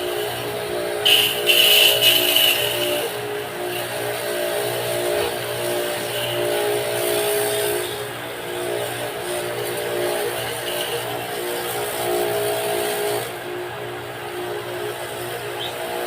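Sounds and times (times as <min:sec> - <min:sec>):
pressure washer motor humming: 0:00.0 - 0:16.0.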